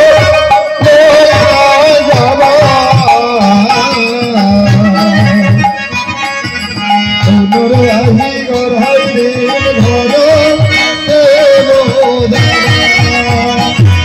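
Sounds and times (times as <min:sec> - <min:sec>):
wavering melody: 0:00.0 - 0:14.0.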